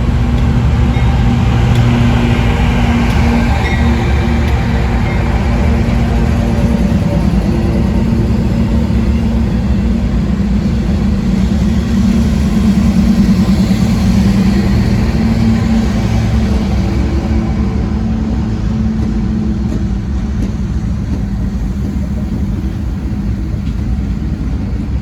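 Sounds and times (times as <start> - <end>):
train locomotive engine passing: 0.0 - 25.0.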